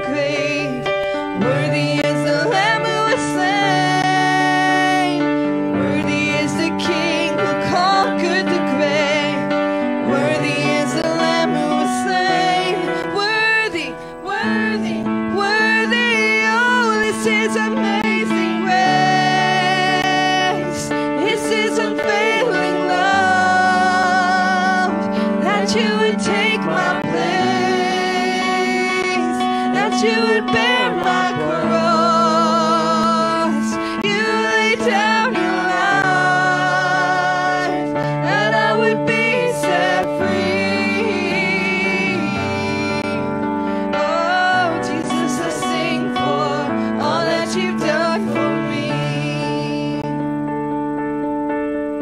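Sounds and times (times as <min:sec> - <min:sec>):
worship team singing: 0:00.0 - 0:50.2
electronic keyboard accompaniment: 0:00.0 - 0:52.0.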